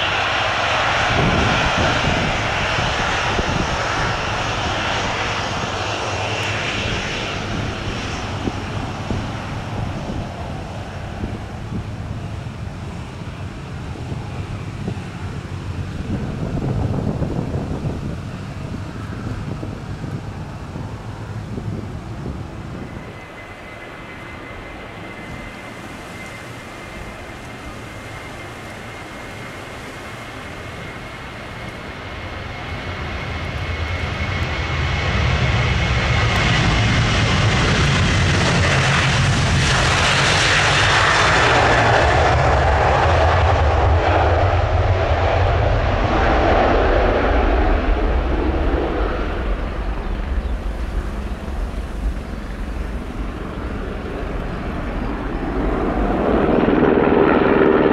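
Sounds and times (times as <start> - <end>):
jet airliner passing: 0.0 - 57.9.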